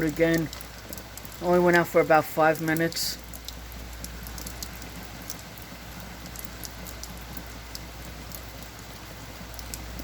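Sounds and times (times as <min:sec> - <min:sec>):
heavy rain pattering: 0:00.0 - 0:10.0
sharp drip ticks: 0:00.0 - 0:10.0.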